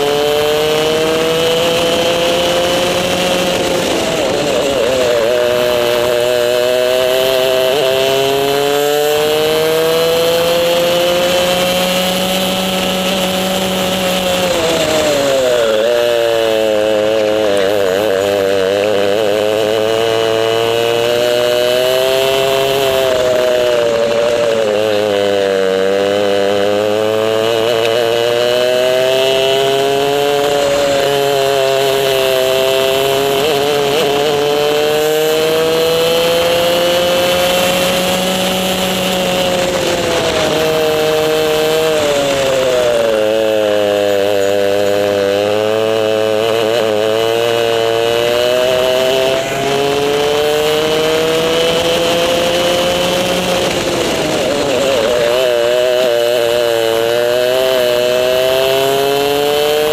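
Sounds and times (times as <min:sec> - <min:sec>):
kart two-stroke engine racing: 0:00.0 - 0:59.9.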